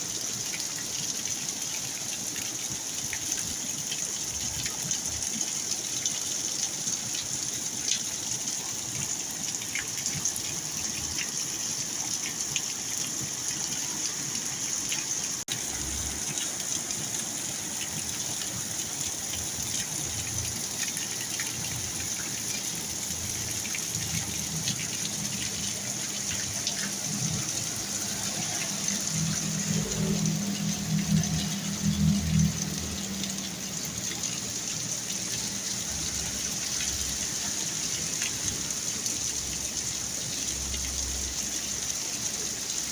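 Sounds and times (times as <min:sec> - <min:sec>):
water gushing: 0:00.0 - 0:42.9
heavy rain falling: 0:00.1 - 0:42.9.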